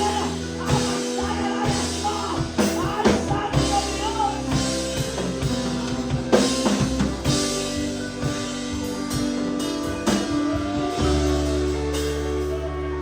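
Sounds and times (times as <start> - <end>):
deep bass note: 0.0 - 13.0
guitar and keyboard chords: 0.0 - 13.0.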